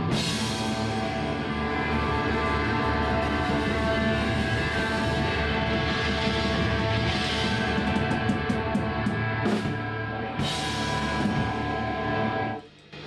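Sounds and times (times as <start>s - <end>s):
drum kit with crashing cymbals: 0.0s - 11.9s
bass guitar: 0.0s - 13.0s
electric guitar: 0.0s - 13.0s.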